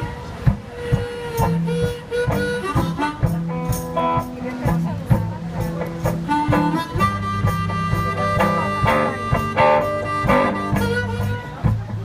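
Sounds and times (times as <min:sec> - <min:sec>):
blues harmonica: 0:00.0 - 0:12.0
guitar: 0:00.0 - 0:12.0
steady percussion beat: 0:00.0 - 0:12.0.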